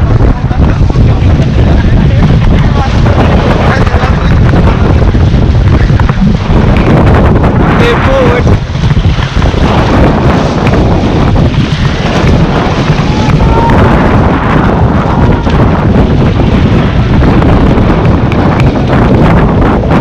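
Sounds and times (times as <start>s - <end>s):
rushing river water: 0.0s - 20.0s
wind buffeting microphone: 0.0s - 20.0s.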